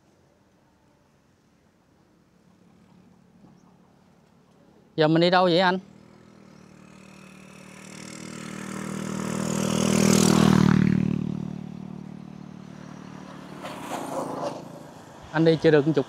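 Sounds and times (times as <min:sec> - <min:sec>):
motorbike passing by: 0:02.4 - 0:16.0.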